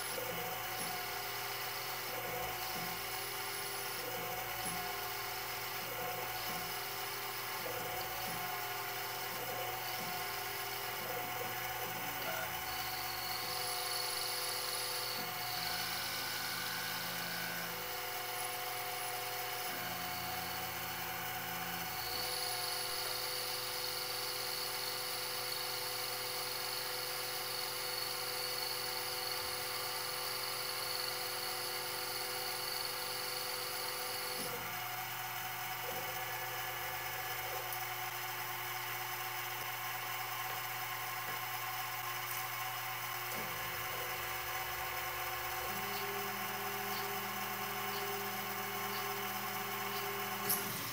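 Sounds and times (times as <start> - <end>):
lathe machine whine: 0.0 - 50.9.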